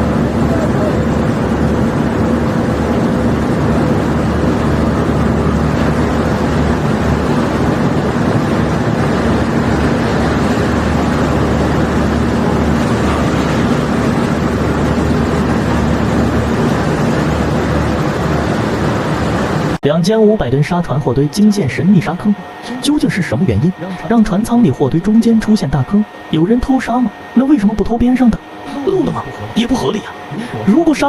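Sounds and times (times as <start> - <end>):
constant rushing noise: 0.0 - 31.0
machinery engine hum: 0.0 - 31.0.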